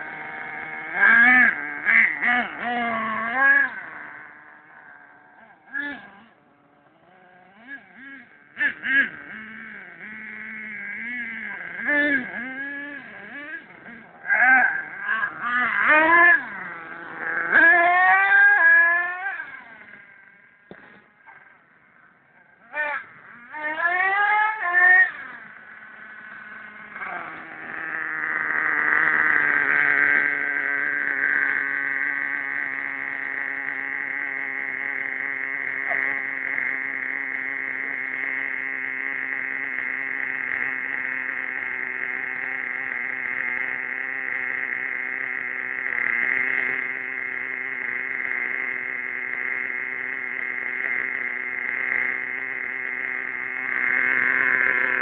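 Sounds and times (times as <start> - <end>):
nitro engine revving and idling: 0.0 - 55.0.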